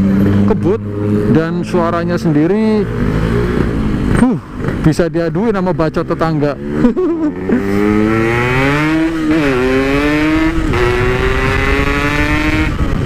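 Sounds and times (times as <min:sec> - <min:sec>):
two-stroke motorcycle accelerating: 0:00.0 - 0:13.0.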